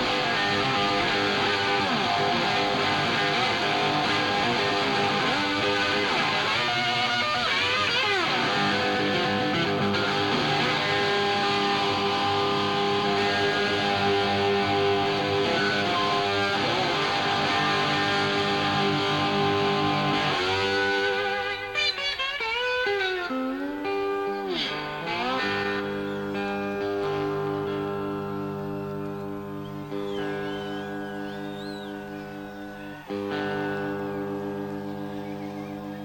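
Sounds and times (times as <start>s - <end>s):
live rock band: 0.0s - 36.0s.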